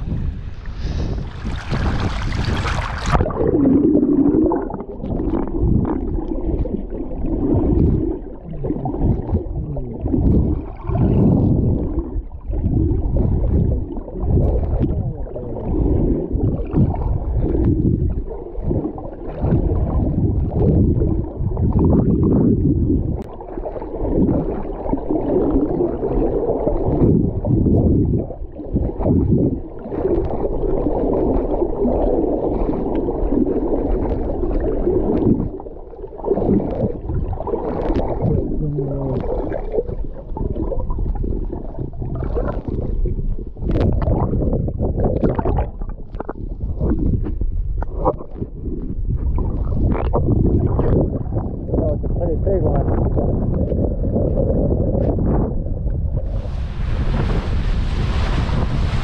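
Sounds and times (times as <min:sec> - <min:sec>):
water splashing: 0:00.0 - 0:51.5, 0:56.2 - 0:59.0
muffled underwater sloshing: 0:00.0 - 0:59.0.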